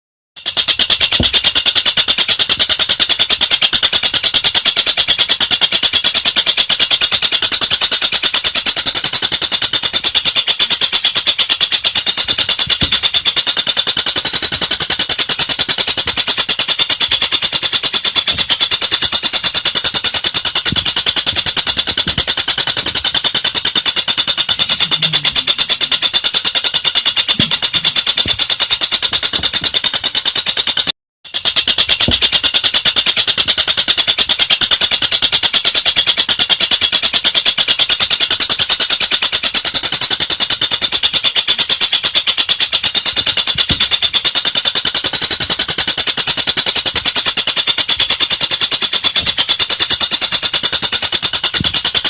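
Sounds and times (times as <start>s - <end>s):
kingfisher rapid chattering call: 0.4s - 52.0s.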